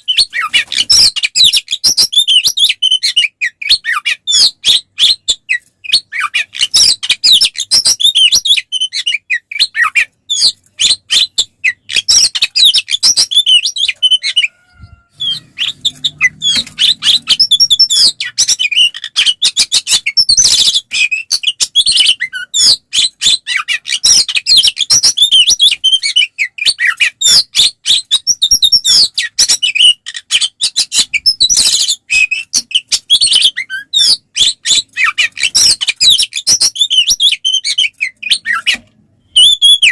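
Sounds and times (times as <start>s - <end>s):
bird song whistles and chattering: 0.0s - 39.9s.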